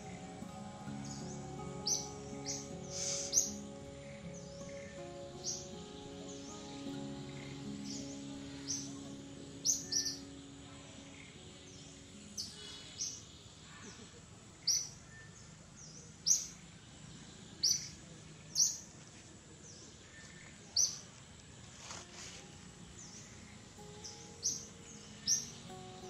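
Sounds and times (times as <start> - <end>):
bird chirping: 0.0 - 19.0, 19.7 - 21.2, 22.2 - 26.0
faint background hiss: 0.0 - 26.0.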